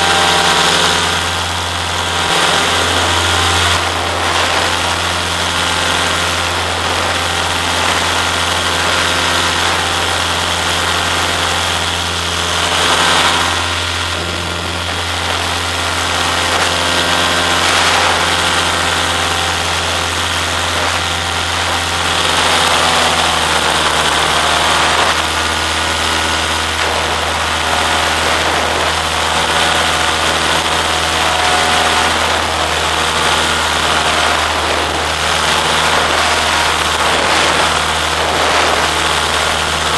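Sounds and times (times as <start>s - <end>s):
small aircraft engine running: 0.0s - 39.9s.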